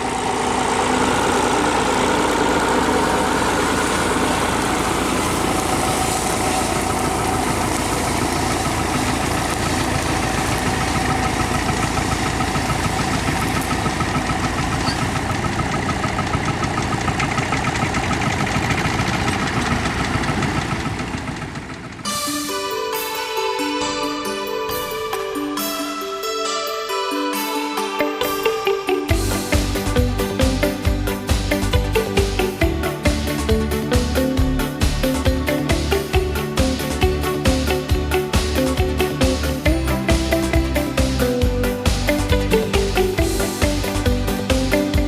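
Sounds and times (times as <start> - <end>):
tractor engine running: 0.0 - 22.3, 29.1 - 45.0.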